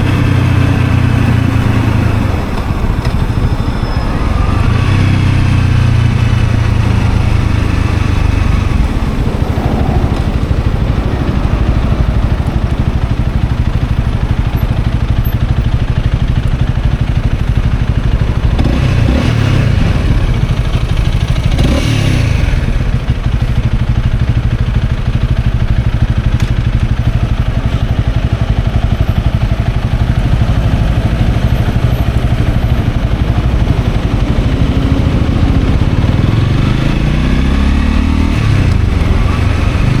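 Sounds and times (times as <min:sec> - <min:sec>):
motorcycle engine running: 0:00.0 - 0:40.0
road and wind noise: 0:00.0 - 0:40.0.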